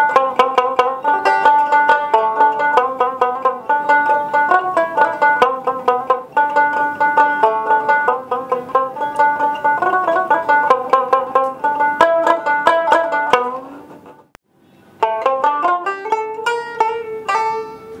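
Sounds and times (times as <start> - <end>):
plucked string melody: 0.0 - 14.4, 15.0 - 18.0.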